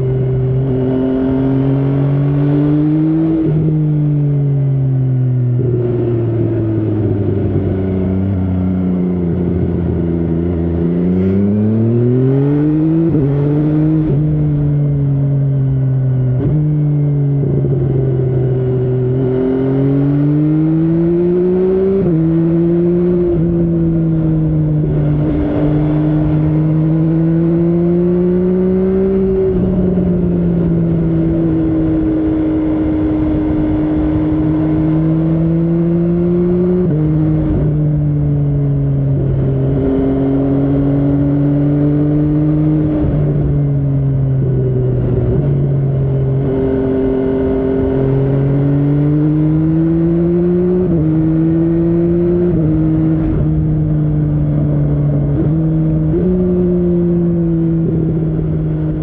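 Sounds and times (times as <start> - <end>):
motorcycle engine through gears: 0.0 - 59.0.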